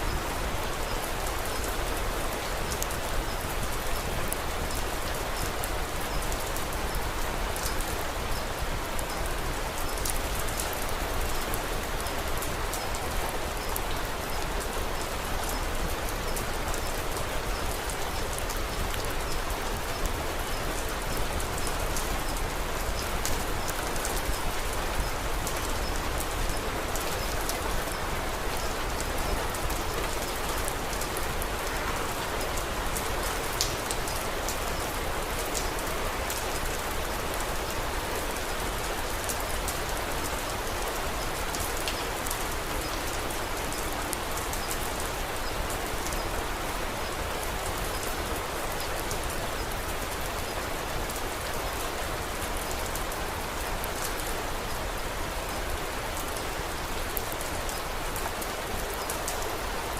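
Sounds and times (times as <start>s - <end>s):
sharp ticks of raindrops: 0.0s - 59.9s
steady rain falling: 0.0s - 59.9s.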